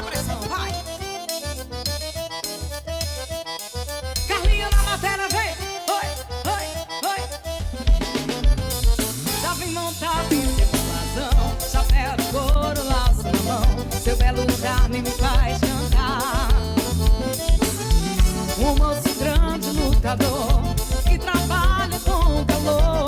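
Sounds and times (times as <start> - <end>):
accordion melody: 0.0 - 23.0
bass: 0.0 - 23.0
drum kit beat: 0.0 - 23.0.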